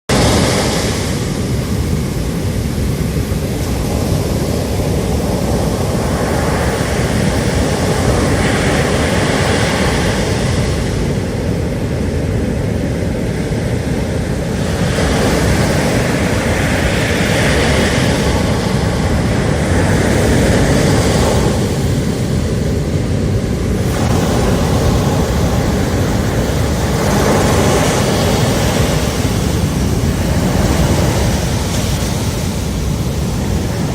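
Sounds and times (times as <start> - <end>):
surf breaking on beach: 0.1 - 33.9.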